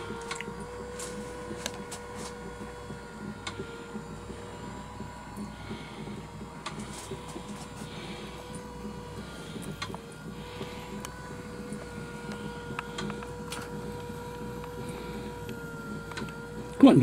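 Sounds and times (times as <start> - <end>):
model engine mechanical hum: 0.0 - 17.0.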